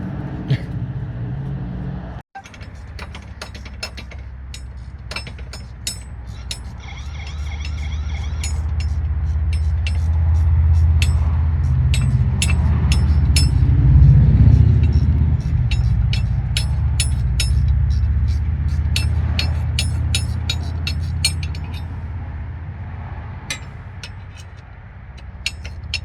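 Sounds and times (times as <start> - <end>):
engine rumble: 0.0 - 26.0.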